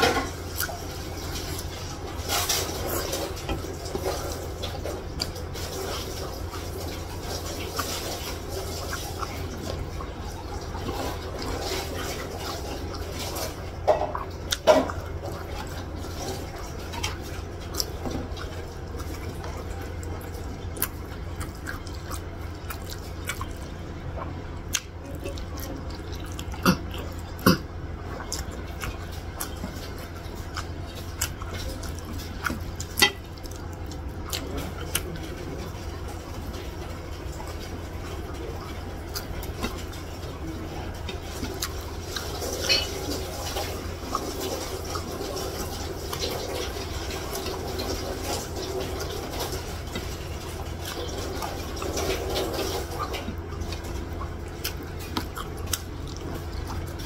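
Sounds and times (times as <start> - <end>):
steady low hum: 0.0 - 57.0
wet chewing and mouth noises: 0.0 - 57.0.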